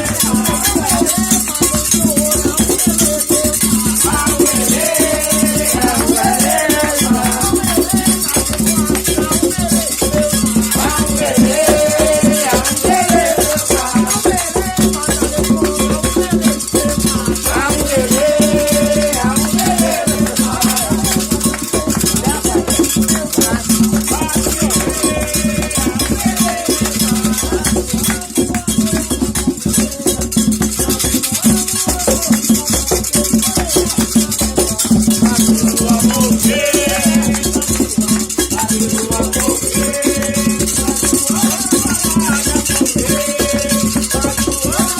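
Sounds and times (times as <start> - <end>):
chanted singing: 0.0 - 32.3, 33.8 - 44.9
shaken rattles: 0.0 - 44.9.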